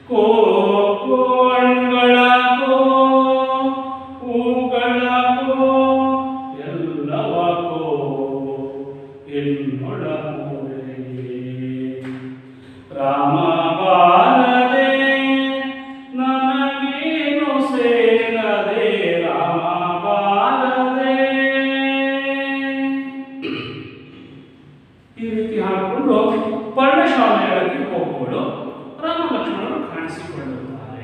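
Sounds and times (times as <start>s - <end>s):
man chanting unaccompanied: 0.0s - 23.6s, 25.1s - 31.0s.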